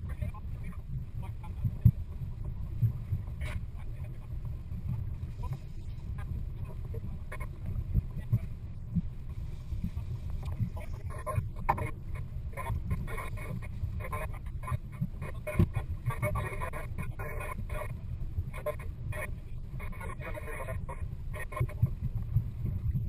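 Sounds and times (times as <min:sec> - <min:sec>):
boat engine rumble: 0:00.0 - 0:23.0.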